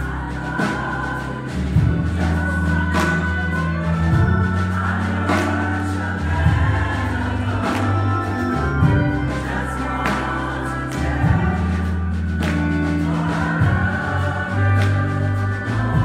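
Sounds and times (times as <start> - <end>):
choir singing: 0.0 - 16.0
sustained accompaniment chords: 0.0 - 16.0.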